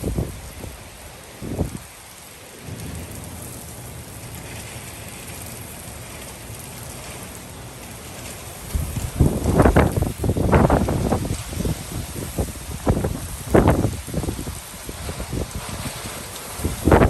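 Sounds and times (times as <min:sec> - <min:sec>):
low thunder rumble: 0:00.0 - 0:01.9, 0:02.5 - 0:07.8, 0:08.5 - 0:17.0
hard rain falling: 0:00.0 - 0:17.0.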